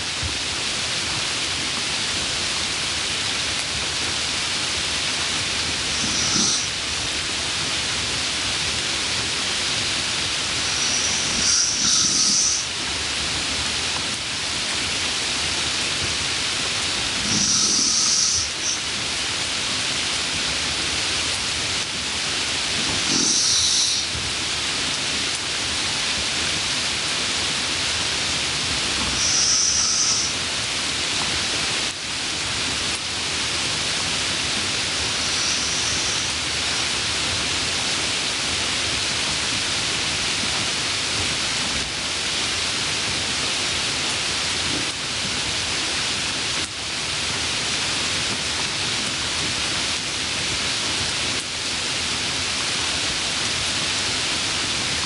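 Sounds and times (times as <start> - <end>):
steady hissing noise: 0.0 - 55.0.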